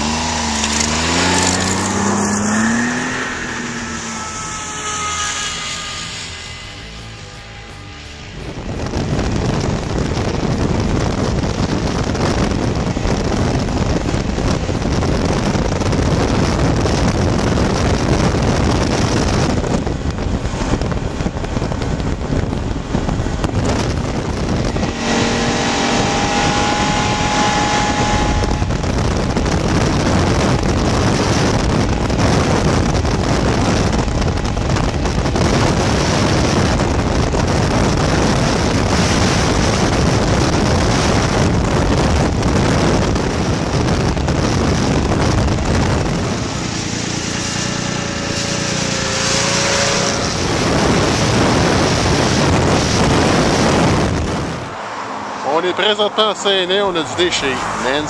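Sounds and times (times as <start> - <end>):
snowmobile engine and track: 0.0 - 58.0
wind rushing over microphone: 0.0 - 58.0.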